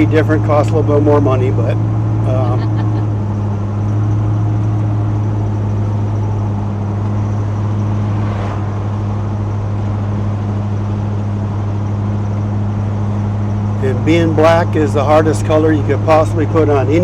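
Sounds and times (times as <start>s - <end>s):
pickup engine droning: 0.0s - 17.0s.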